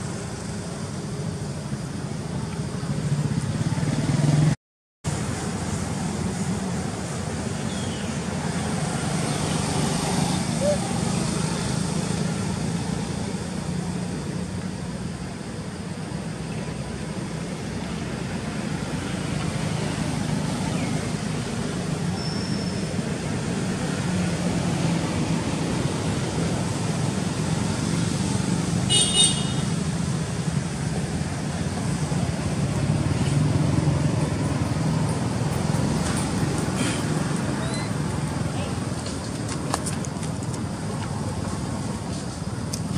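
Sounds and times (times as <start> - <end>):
road traffic: 0.0 - 42.9.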